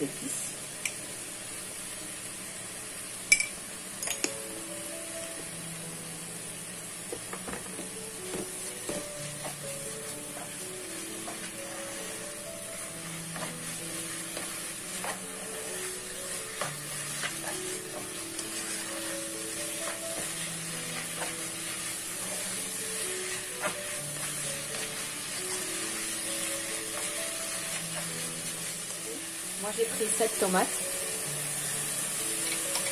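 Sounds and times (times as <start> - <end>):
food sizzling in a pot: 0.0 - 32.9
soft background music: 3.6 - 32.9.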